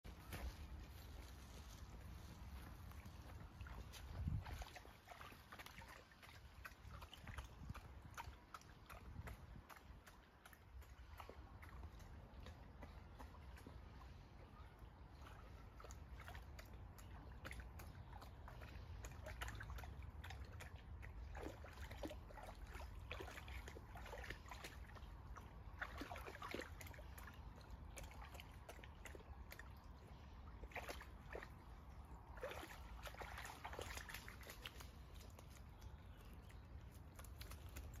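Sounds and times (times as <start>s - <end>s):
dog splashing in water: 3.0s - 14.3s, 15.0s - 38.0s.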